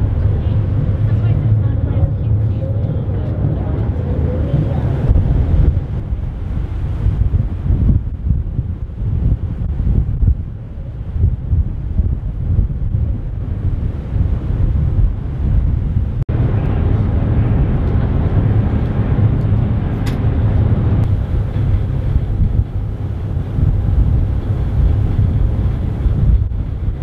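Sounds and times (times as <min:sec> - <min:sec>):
ferry engine low rumble: 0:00.0 - 0:27.0
wind buffeting microphone: 0:00.0 - 0:27.0.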